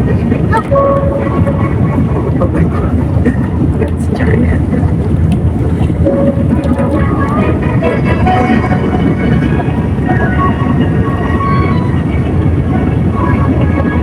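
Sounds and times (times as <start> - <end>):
airliner cabin engine rumble: 0.0 - 14.0
faint passenger voices: 0.0 - 14.0.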